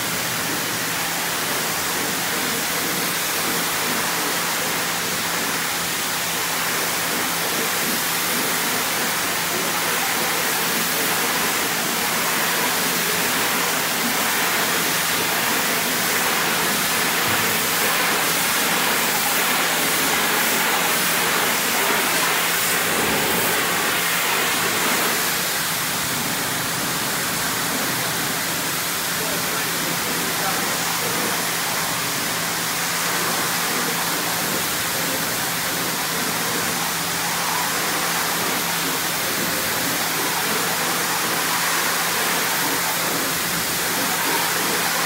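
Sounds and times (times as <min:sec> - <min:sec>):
pressure washer spray hiss: 0:00.0 - 0:45.0.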